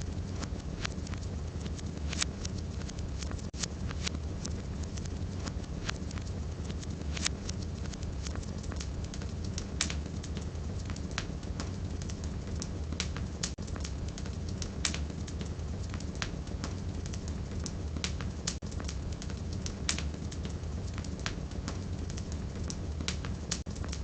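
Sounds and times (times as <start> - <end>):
firewood crackling and popping: 0.0 - 24.0
low rumble of flames: 0.0 - 24.0.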